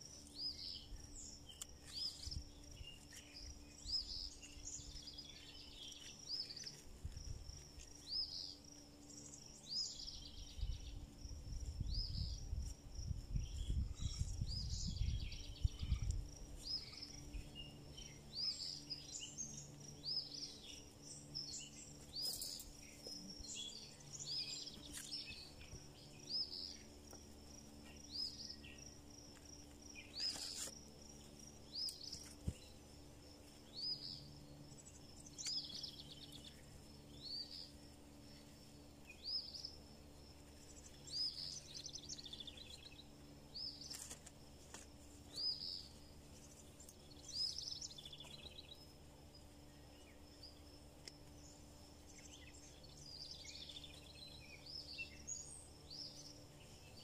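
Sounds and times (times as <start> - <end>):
faint low hum: 0.0 - 57.0
songbird chirping: 0.0 - 57.0.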